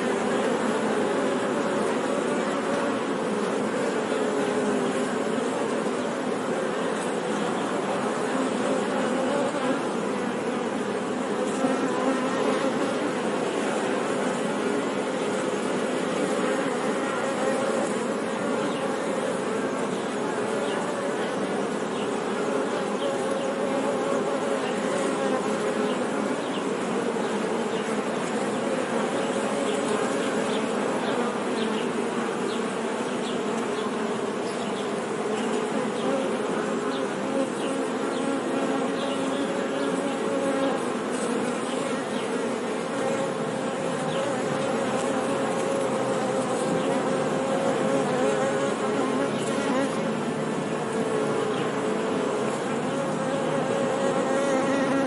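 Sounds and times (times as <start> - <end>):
honey bees buzzing: 0.0 - 55.0.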